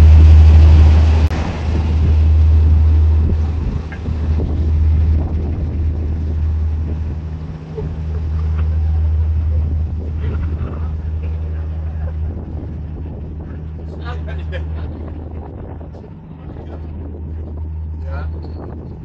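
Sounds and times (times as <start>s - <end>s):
steady low hum: 0.0s - 19.0s
wind buffeting microphone: 0.0s - 19.0s.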